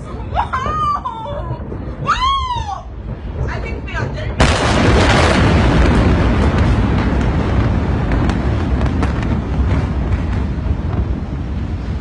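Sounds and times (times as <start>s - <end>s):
blast wind buffeting microphone: 0.0s - 12.0s
explosion rumble: 0.0s - 12.0s.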